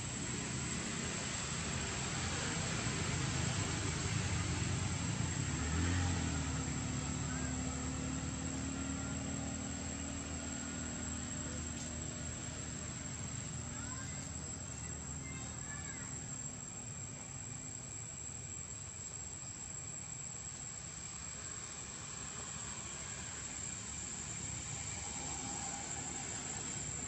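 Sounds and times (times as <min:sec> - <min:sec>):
distant engine drone: 0:00.0 - 0:27.0
high insect buzz: 0:00.2 - 0:27.0.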